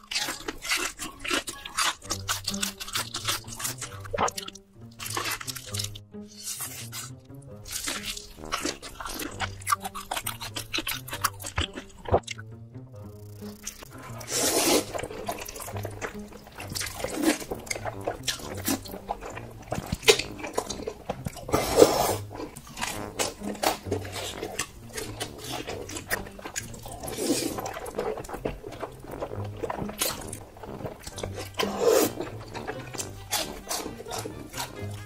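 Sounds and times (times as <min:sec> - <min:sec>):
chewing: 0:00.0 - 0:12.4, 0:13.4 - 0:35.0
noodles being slurped: 0:00.0 - 0:12.4, 0:13.4 - 0:35.0.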